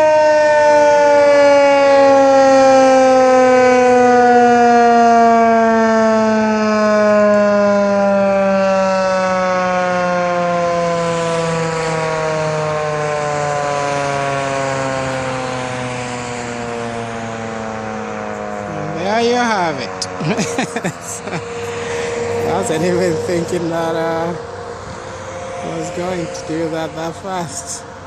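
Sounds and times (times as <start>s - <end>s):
warning siren winding down: 0.0s - 28.0s.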